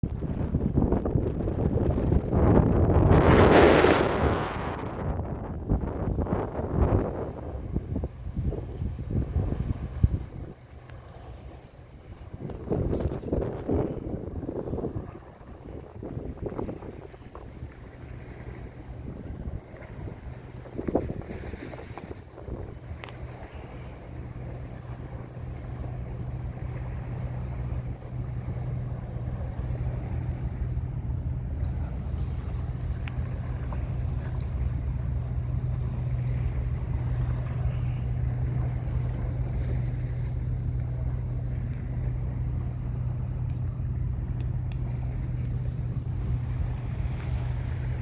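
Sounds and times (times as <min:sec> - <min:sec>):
low hum: 0:00.0 - 0:48.0
wind buffeting microphone: 0:00.0 - 0:48.0.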